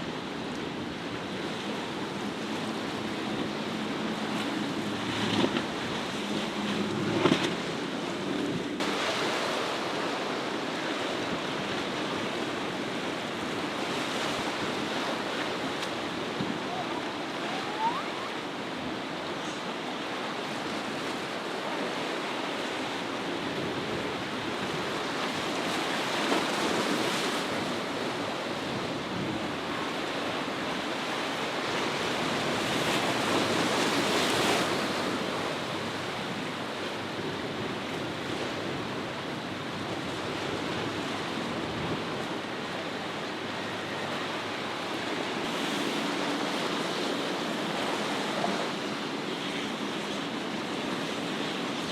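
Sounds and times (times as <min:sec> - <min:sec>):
ocean waves breaking: 0:00.0 - 0:51.9.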